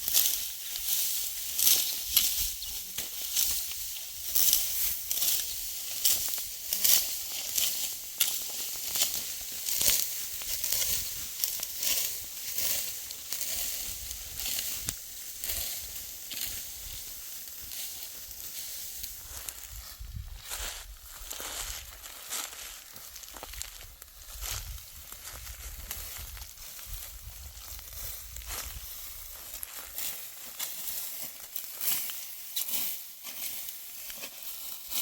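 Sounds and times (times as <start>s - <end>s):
dry wheat stalks rustling: 0.0s - 35.0s.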